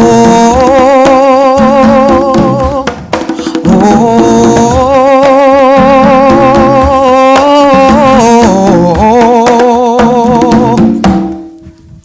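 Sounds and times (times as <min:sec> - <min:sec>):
backing track with a beat: 0:00.0 - 0:11.7
person singing with vibrato: 0:00.0 - 0:11.8.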